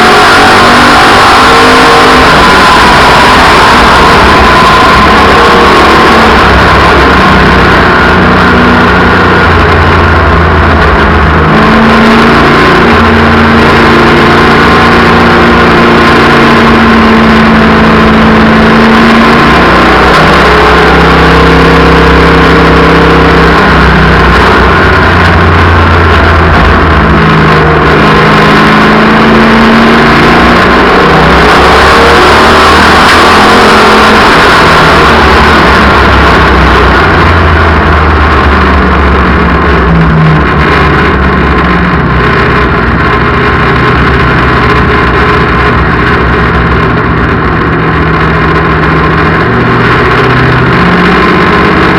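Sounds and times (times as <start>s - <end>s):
race car engines: 0.0s - 51.9s.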